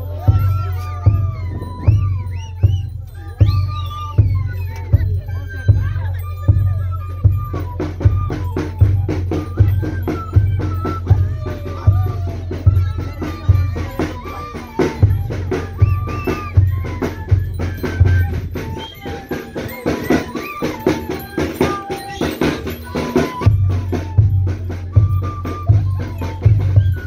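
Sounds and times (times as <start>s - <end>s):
flute melody: 0.0s - 27.0s.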